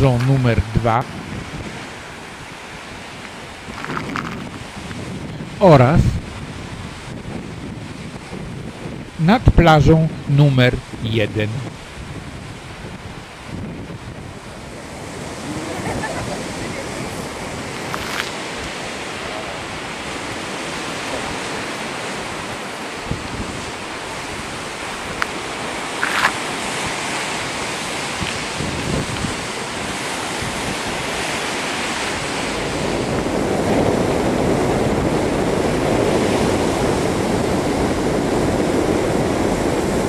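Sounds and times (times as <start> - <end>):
surf breaking on rocky shore: 0.0 - 40.0
wind on microphone: 0.0 - 40.0.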